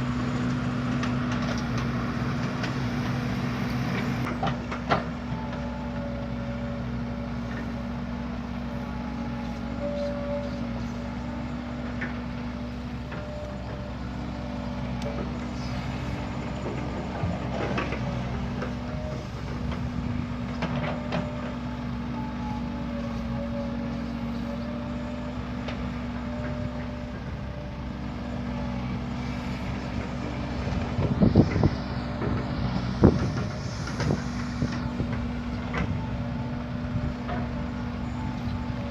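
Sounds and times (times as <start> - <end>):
diesel machinery running: 0.0 - 38.9.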